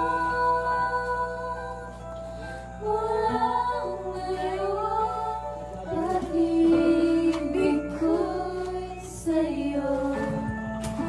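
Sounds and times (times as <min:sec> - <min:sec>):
slow song with singing voice: 0:00.0 - 0:11.0.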